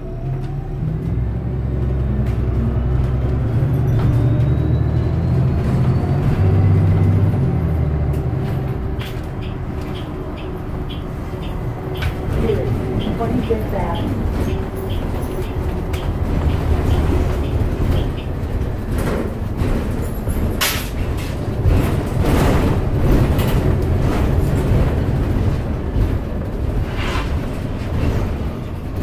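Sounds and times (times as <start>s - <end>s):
bus drivetrain and road rumble: 0.0s - 29.0s
bus body clattering: 2.0s - 29.0s.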